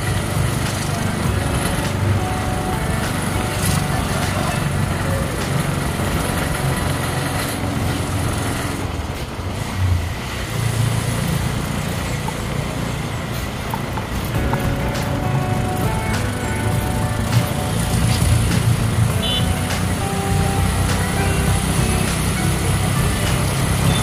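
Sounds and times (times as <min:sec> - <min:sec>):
road noise: 0:00.0 - 0:24.0
vehicle engine hum: 0:00.0 - 0:24.0.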